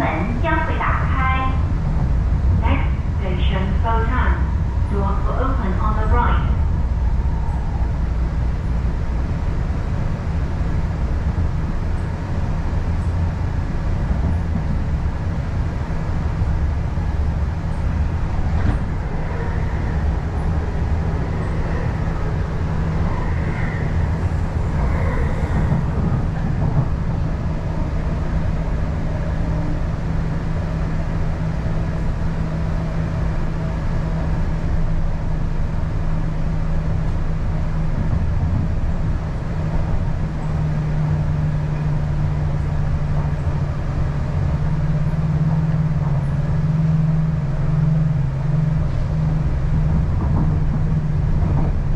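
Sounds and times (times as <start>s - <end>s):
traction equipment hum: 0.0s - 51.9s
train wheels rumbling on track: 0.0s - 51.9s.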